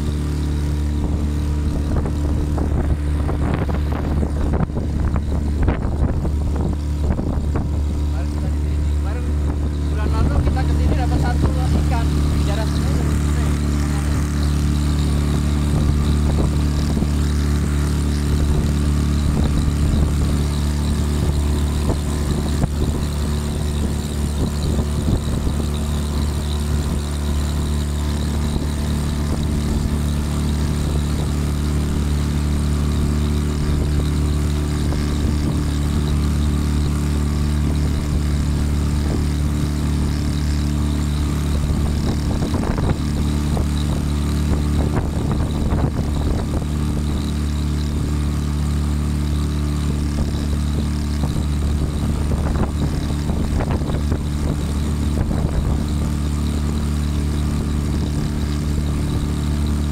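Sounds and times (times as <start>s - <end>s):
boat motor droning: 0.0s - 59.9s.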